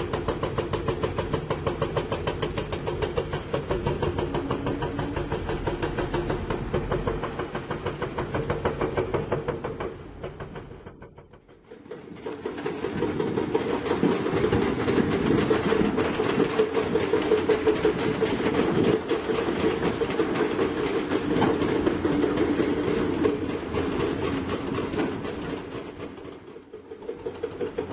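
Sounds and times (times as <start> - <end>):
excavator diesel engine: 0.0 - 27.9
fast metallic clatter: 0.0 - 27.9.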